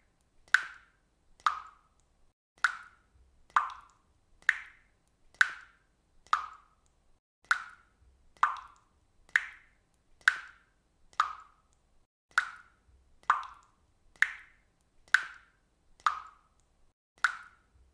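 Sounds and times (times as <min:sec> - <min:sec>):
water dripping from a faucet: 0:00.0 - 0:17.9.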